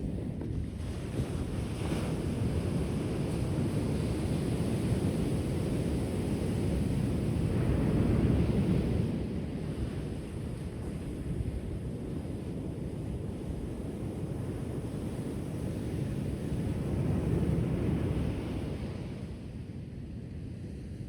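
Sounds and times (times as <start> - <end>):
ocean waves washing onto shore: 0.0 - 19.8.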